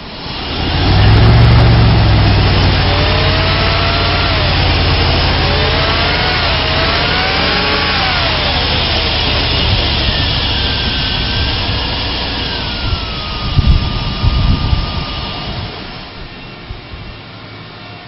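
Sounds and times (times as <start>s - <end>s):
car engine idling: 0.0s - 18.0s
faint wavering whine: 0.0s - 18.0s.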